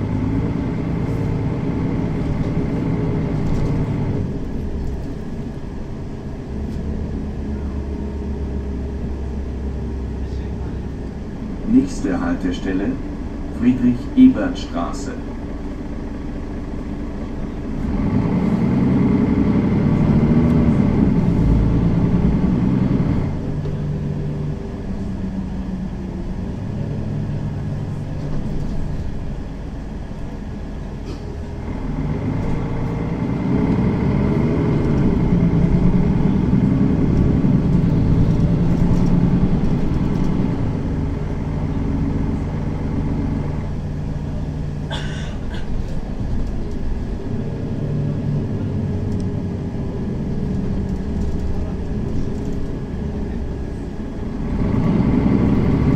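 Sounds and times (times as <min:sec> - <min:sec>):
bus diesel engine pulling away: 0:00.0 - 0:55.9.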